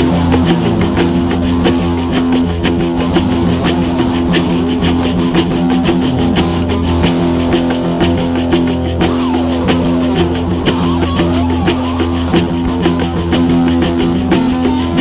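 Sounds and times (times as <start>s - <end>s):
low drone: 0.0s - 14.4s
plucked strings: 0.0s - 15.0s
rapid percussive strikes: 0.0s - 15.0s.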